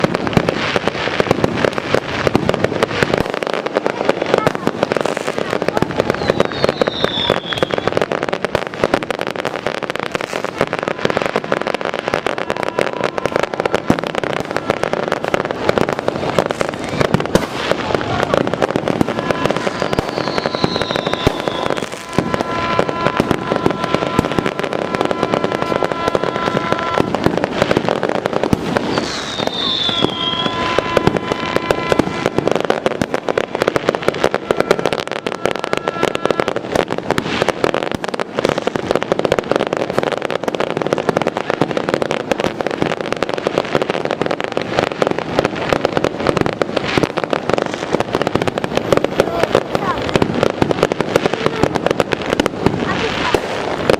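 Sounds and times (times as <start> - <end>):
falling firework whistle: 0.0 - 53.9
fireworks bangs and crackling: 0.0 - 53.9.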